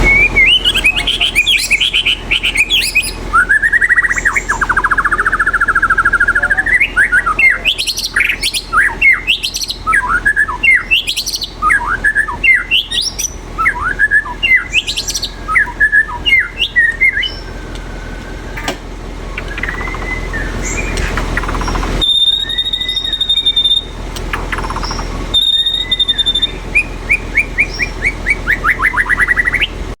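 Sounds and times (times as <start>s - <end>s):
steady high tone: 0.0s - 29.6s
bird singing whistles and trills: 0.0s - 30.0s.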